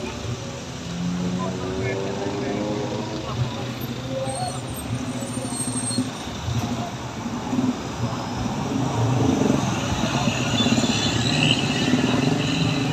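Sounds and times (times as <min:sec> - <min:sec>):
heavy vehicle engine rumble: 0:00.0 - 0:12.9.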